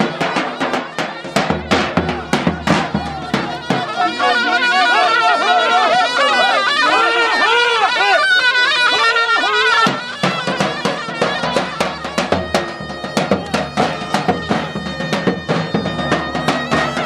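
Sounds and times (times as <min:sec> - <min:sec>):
shrill reed wind melody: 0:03.1 - 0:17.0.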